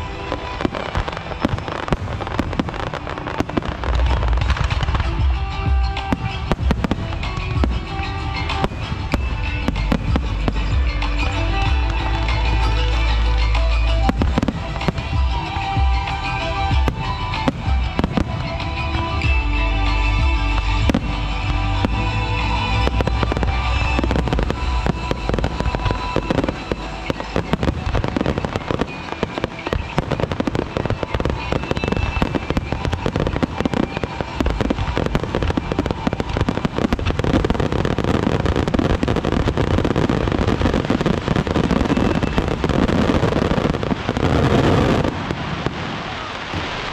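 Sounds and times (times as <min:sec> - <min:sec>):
fireworks crackling and bursting: 0:00.0 - 0:46.9
music: 0:00.0 - 0:46.9.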